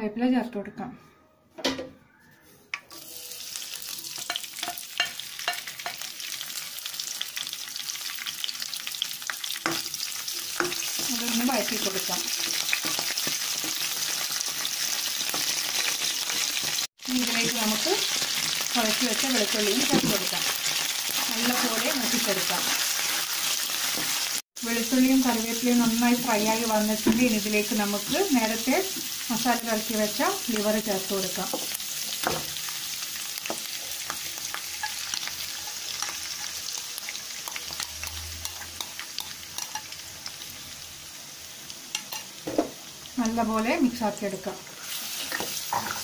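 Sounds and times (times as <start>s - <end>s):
food sizzling in hot oil: 2.8s - 46.0s.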